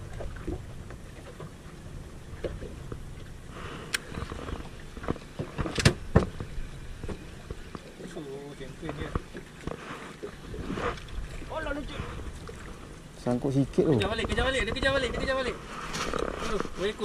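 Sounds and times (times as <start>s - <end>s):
water around boat: 0.0s - 17.0s
wind: 0.0s - 17.0s.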